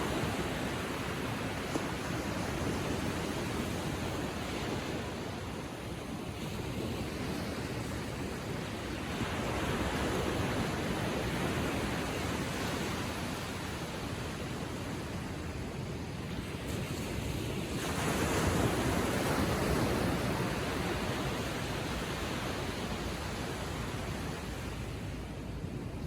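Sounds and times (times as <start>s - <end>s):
ocean waves lapping on beach: 0.0s - 26.0s.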